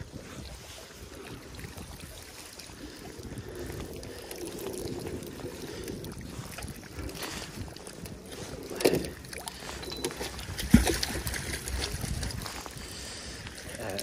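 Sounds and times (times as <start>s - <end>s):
river water splashing and dripping: 0.0s - 14.0s.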